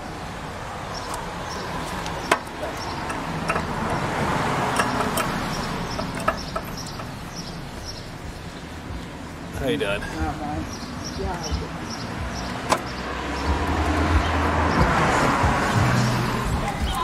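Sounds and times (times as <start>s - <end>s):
steady background rush: 0.0s - 17.0s.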